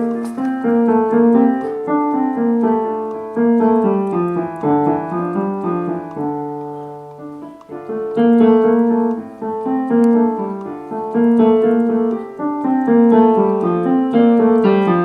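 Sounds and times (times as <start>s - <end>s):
piano playing chords: 0.0s - 15.0s.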